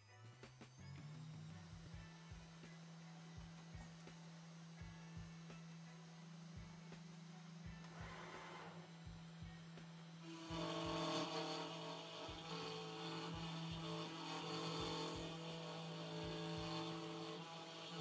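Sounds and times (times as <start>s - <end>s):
cnc router whine: 0.0s - 18.0s
steady hum: 0.0s - 18.0s.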